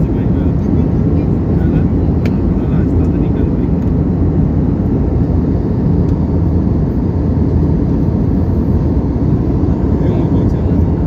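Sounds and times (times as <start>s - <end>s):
aircraft in flight rushing: 0.0s - 11.0s.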